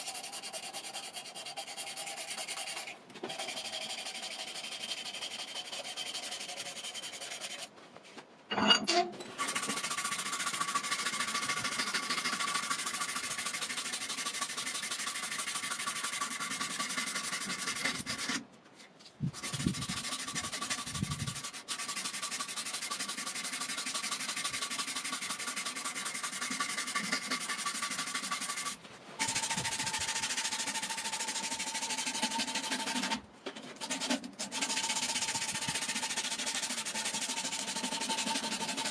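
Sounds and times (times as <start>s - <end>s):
cloth strip sanding wood: 0.0s - 7.8s, 9.4s - 18.4s, 19.2s - 38.9s.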